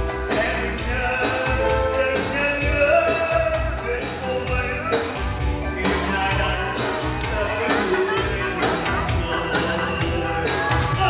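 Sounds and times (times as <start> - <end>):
loud amplified music with bass: 0.0 - 11.0
man singing into microphone: 0.2 - 11.0.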